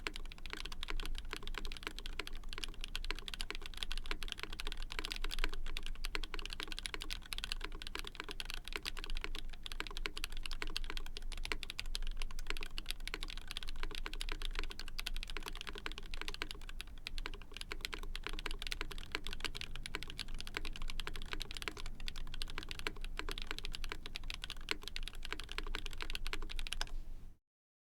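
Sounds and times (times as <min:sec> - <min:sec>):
fast mechanical keyboard typing: 0:00.0 - 0:26.9.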